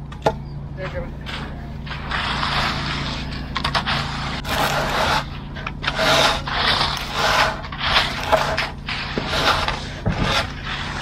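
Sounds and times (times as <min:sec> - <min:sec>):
truck engine humming: 0:00.0 - 0:11.0
rake scraping through gravelly concrete: 0:00.8 - 0:11.0.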